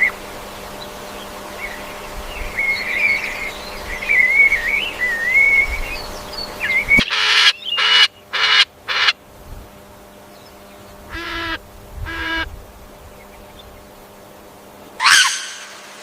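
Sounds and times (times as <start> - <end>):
bird calls: 0.0 - 9.2, 10.0 - 14.2, 14.8 - 15.9.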